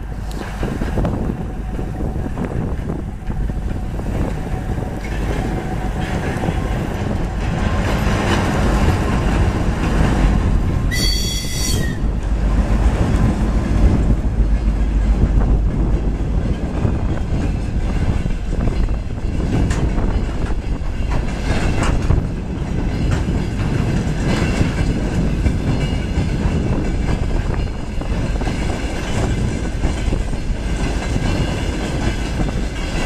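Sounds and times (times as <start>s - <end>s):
diesel locomotive rumbling: 0.0s - 33.0s.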